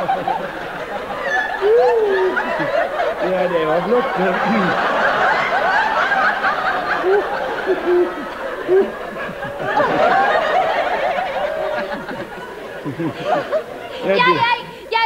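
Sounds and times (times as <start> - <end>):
audience laughing: 0.0 - 14.8.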